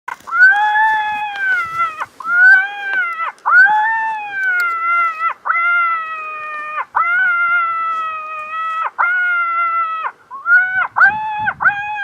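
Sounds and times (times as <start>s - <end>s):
electronic animal call cries: 0.2s - 12.0s.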